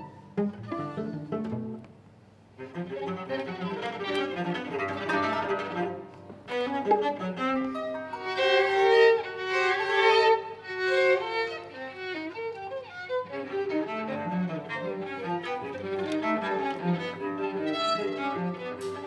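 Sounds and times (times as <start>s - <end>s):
bowed violin: 0.0s - 19.0s
small ensemble playing: 0.0s - 19.0s.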